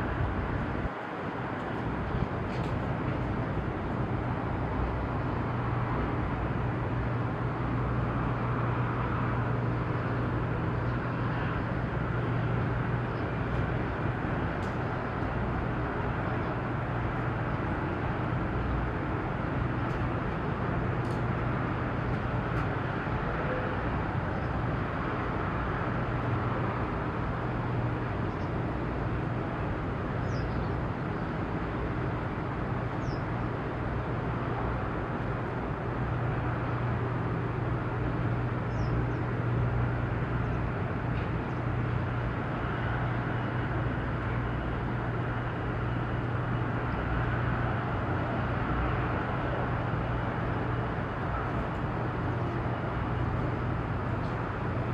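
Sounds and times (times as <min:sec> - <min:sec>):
low engine drone: 0:00.0 - 0:54.9.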